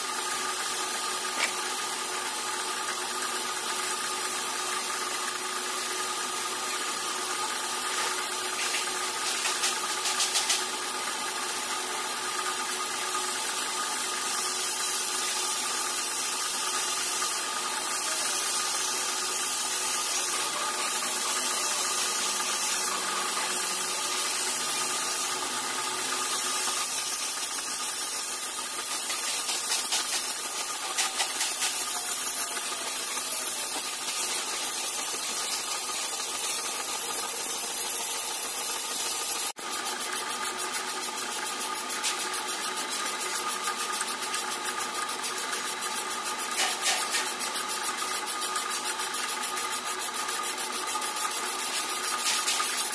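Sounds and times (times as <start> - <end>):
metal lathe whine: 0.0 - 29.1, 29.9 - 52.9.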